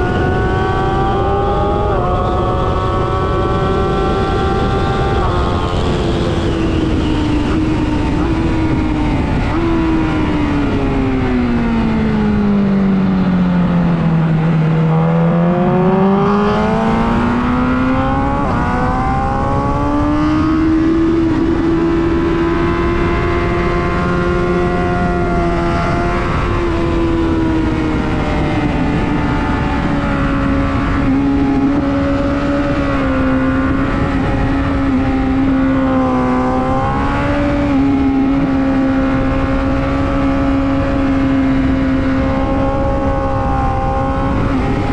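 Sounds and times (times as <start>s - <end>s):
motorbike engine at speed: 0.0s - 44.9s
wind noise: 0.0s - 44.9s.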